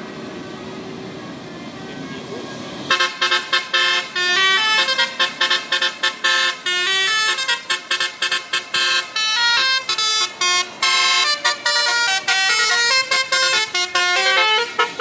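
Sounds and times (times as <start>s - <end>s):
multi-tone air horn melody: 2.9s - 15.0s.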